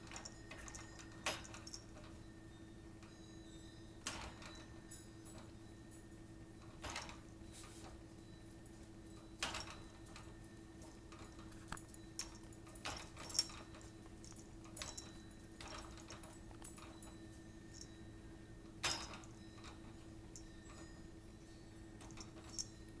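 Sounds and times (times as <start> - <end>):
light metallic clicks and clinks: 0.0 - 18.1, 18.8 - 23.0
faint steady hum: 0.0 - 23.0.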